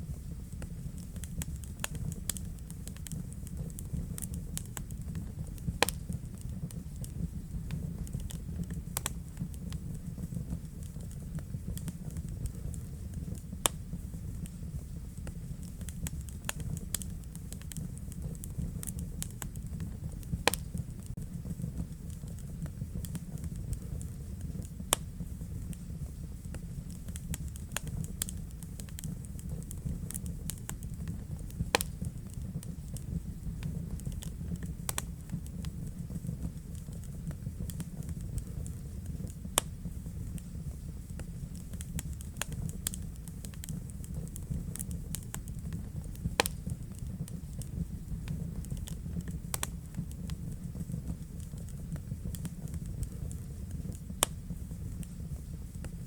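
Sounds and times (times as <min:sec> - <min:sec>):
wood fire burning: 0:00.0 - 0:56.0.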